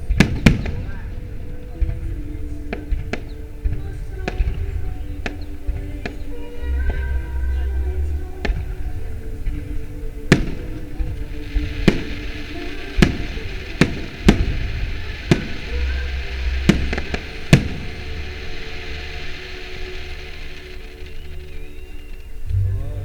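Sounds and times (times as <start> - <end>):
fireworks shells bursting: 0.0 - 22.6
background music: 0.0 - 23.0
fireworks crackling: 0.0 - 23.0.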